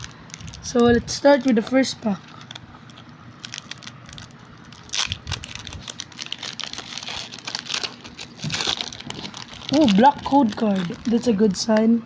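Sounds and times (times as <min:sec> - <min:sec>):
foil wrapper crinkling and tearing: 0:00.0 - 0:11.6.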